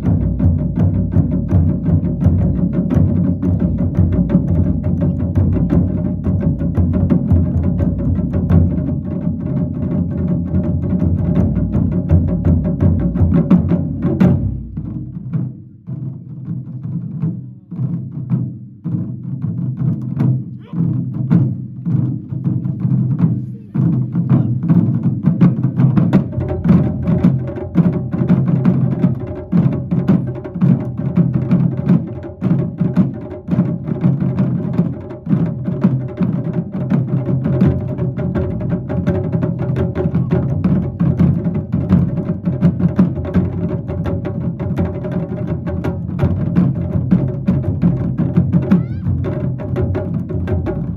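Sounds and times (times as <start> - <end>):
taiko drumming: 0.0 - 50.9.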